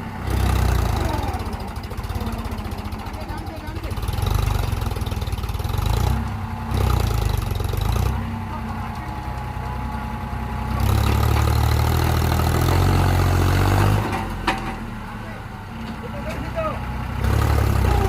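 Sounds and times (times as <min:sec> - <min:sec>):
tractor engine working hard: 0:00.0 - 0:18.0.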